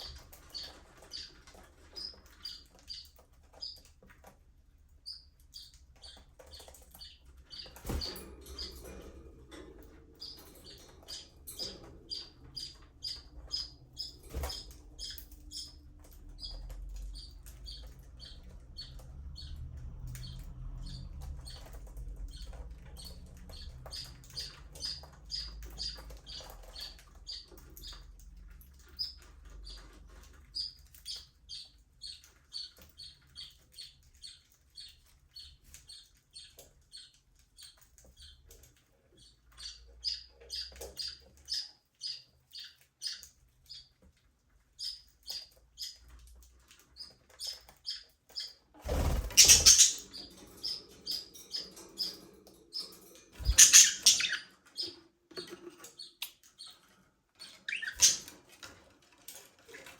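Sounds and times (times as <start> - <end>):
budgerigars chirping: 0.0 - 3.9, 5.0 - 8.8, 10.2 - 19.6, 20.2 - 21.7, 22.3 - 28.0, 28.8 - 38.4, 39.2 - 43.9, 44.8 - 46.0, 47.0 - 56.8, 57.4 - 58.4.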